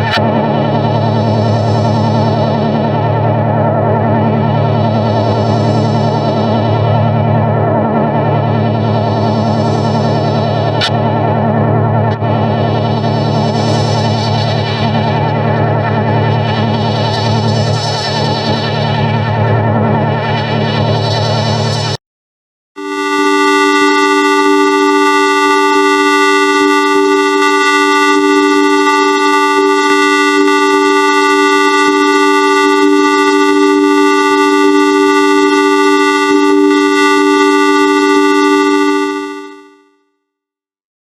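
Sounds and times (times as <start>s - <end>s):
electronic drone chord: 0.0s - 22.0s, 22.8s - 39.9s.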